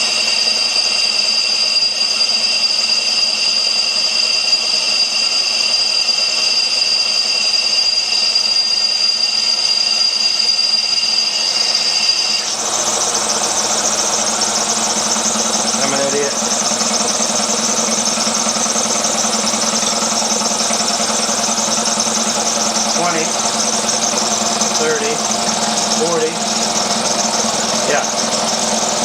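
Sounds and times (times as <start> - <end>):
air compressor pump running: 0.0 - 29.0.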